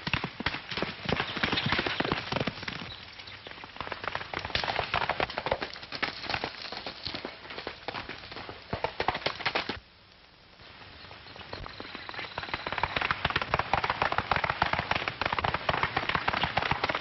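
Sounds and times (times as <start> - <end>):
horses galloping hoofbeats: 0.0 - 9.9, 11.0 - 17.0.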